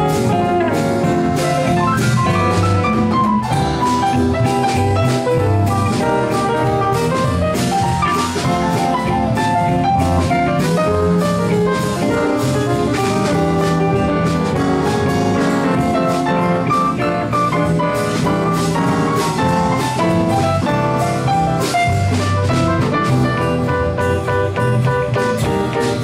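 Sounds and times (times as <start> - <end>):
bass: 0.0 - 26.0
electric guitar: 0.0 - 26.0
percussion steady beat: 0.0 - 26.0
piano: 0.0 - 26.0.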